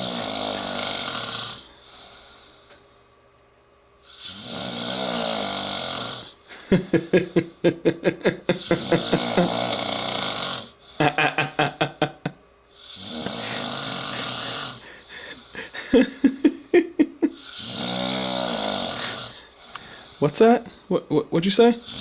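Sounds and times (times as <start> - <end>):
man snoring heavily: 0.0 - 2.4, 4.0 - 12.1, 12.7 - 20.2, 21.8 - 22.0.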